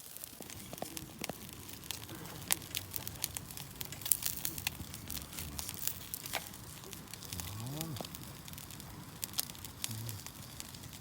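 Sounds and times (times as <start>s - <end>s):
campfire crackling: 0.0s - 11.0s
food frying in oil: 0.0s - 11.0s.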